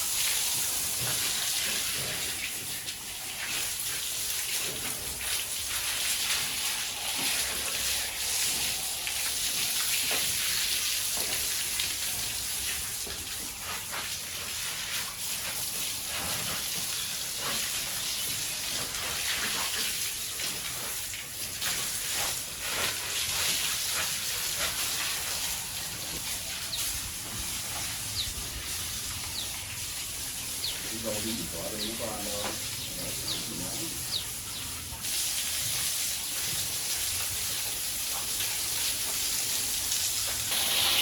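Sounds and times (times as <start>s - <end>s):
water spray splashing: 0.0s - 41.0s.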